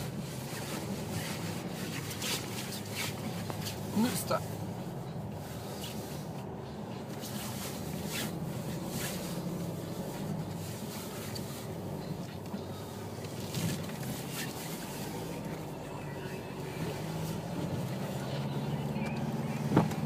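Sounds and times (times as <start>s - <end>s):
car engine hum from inside: 0.0s - 20.0s.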